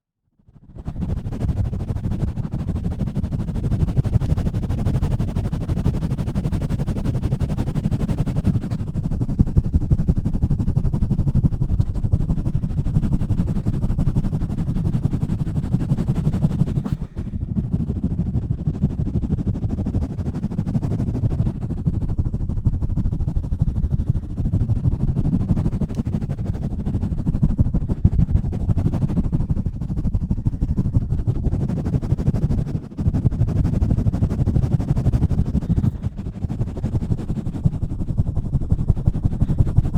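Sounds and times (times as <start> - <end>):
hands rubbing on microphone: 1.0 - 18.1, 20.4 - 39.9.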